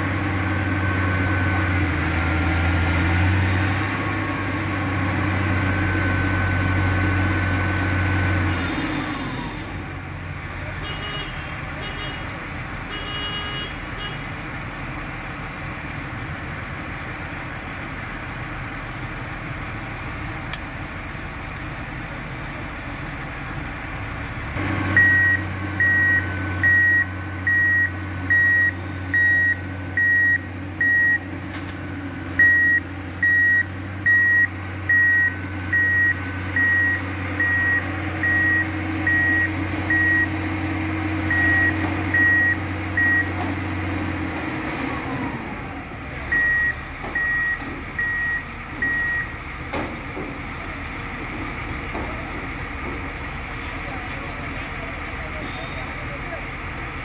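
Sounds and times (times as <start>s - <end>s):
engine hum: 0.0s - 57.0s.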